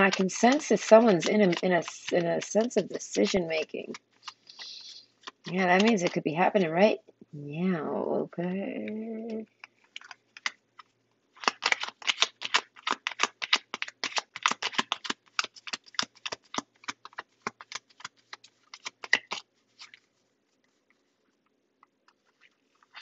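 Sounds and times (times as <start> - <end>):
cards being shuffled: 0.0 - 6.7, 9.2 - 23.0.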